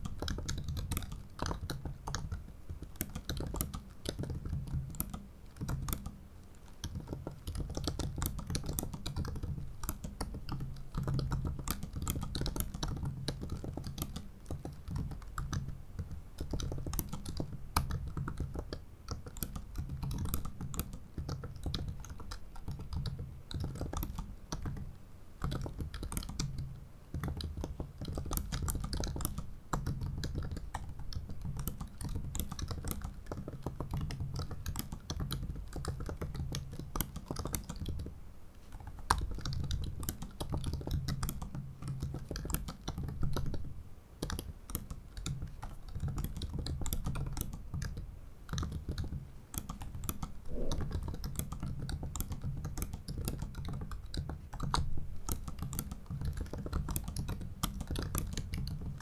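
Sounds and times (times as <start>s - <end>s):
laptop keyboard typing: 0.0s - 59.0s.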